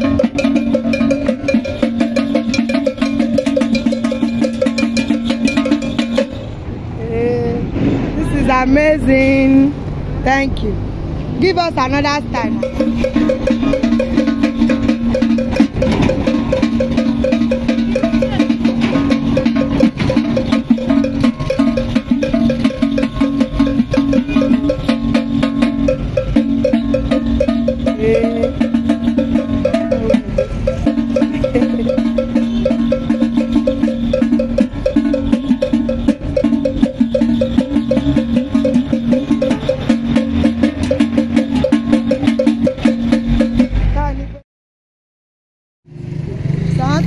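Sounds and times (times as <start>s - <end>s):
gong beaten in fast rhythm: 0.0s - 6.6s, 12.4s - 43.9s.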